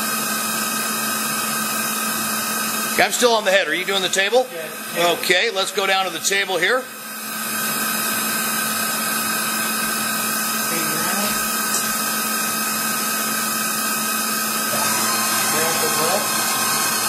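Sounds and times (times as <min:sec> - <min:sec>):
mill power feed motor whining: 0:00.0 - 0:17.0.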